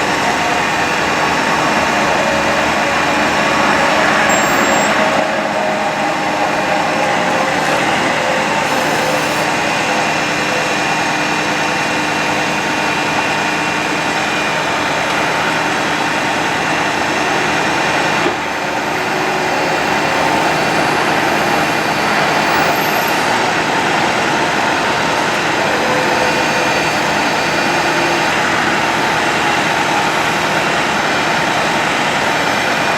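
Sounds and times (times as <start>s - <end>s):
truck engine running: 0.0s - 32.9s.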